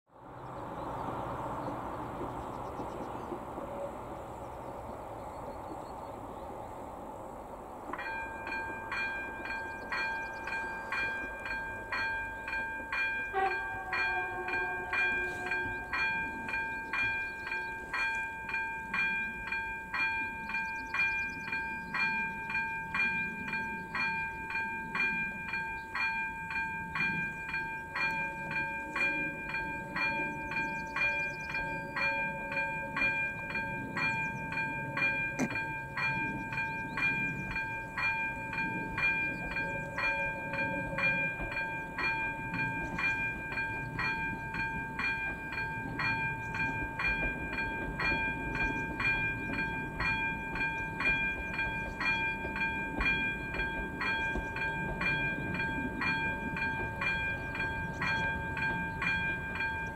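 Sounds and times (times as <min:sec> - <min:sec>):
level crossing warning bell: 0:07.9 - 0:59.9.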